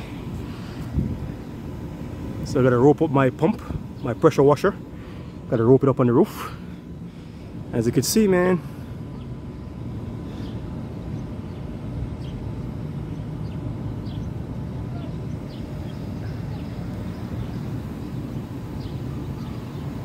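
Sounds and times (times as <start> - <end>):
faint steady hum: 0.0 - 20.0
low outdoor rumble: 0.0 - 20.0.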